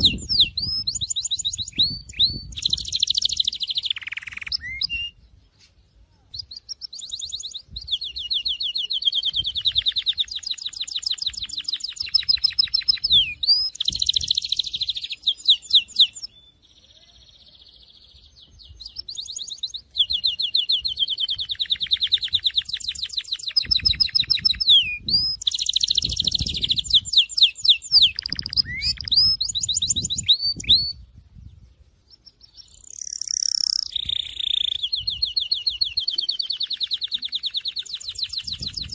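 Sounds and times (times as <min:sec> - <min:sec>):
canary singing trills: 0:00.0 - 0:05.4, 0:06.3 - 0:38.9.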